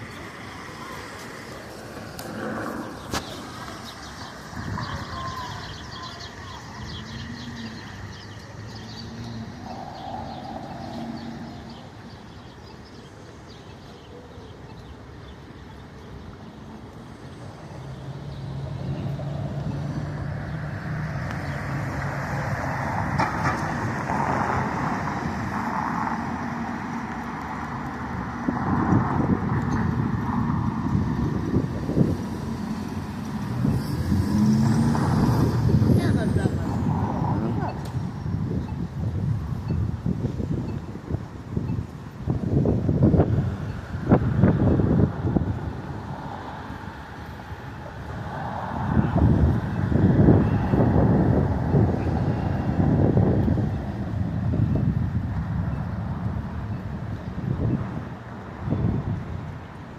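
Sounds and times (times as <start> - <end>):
motor vehicles running: 0.0 - 59.9.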